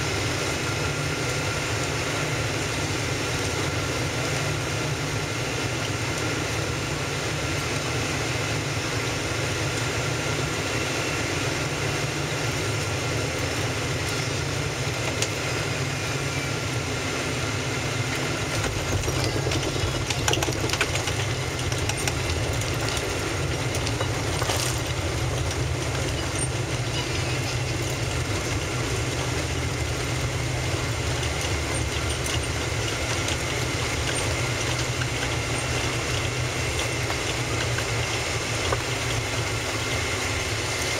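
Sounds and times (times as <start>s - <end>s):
airplane cabin engine and airflow rush: 0.0s - 40.9s.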